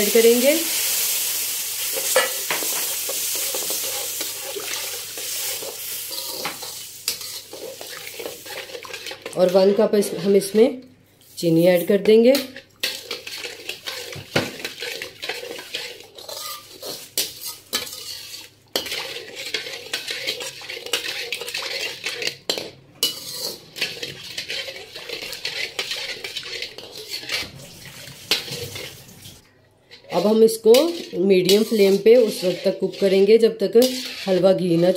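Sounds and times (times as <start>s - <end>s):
metal spoon scraping a wok: 1.8s - 10.6s, 11.2s - 29.0s, 29.9s - 34.9s.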